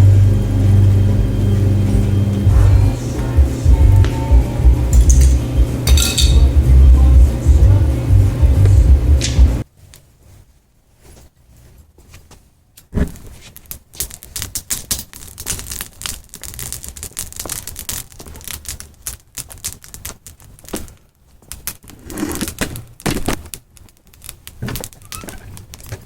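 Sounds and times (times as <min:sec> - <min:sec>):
electric arc crackling and snapping: 0:00.0 - 0:09.6, 0:12.8 - 0:26.0.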